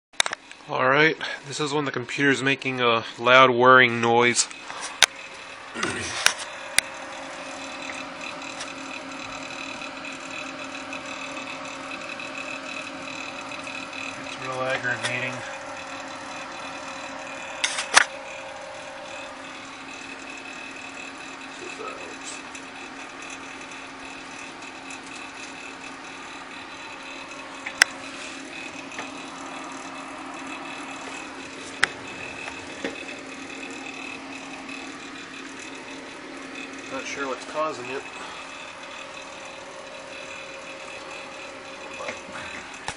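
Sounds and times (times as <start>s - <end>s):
computer fan whirring: 0.2s - 42.9s.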